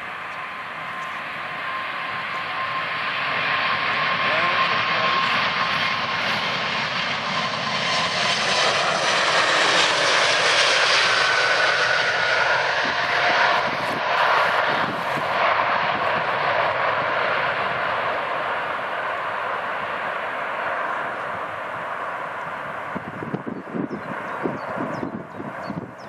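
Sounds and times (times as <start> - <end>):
jet engines rushing with high whine: 0.0 - 26.0.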